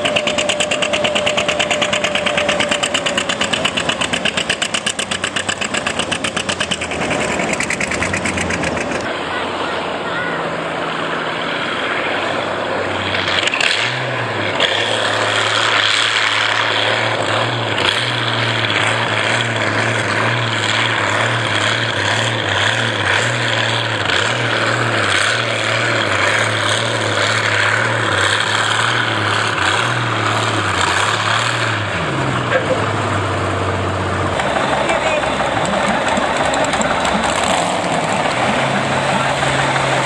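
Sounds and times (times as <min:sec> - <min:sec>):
tractor engine exhaust roar: 0:00.0 - 0:40.0.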